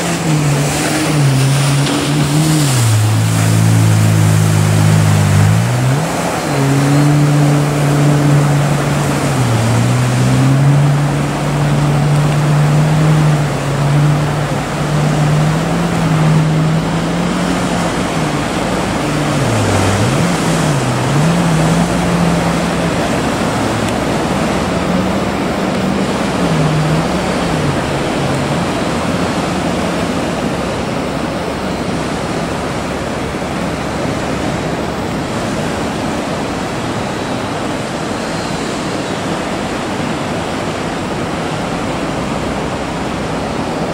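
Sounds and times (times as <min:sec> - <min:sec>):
boat engine droning: 0:00.0 - 0:43.9
waves breaking: 0:00.0 - 0:43.9.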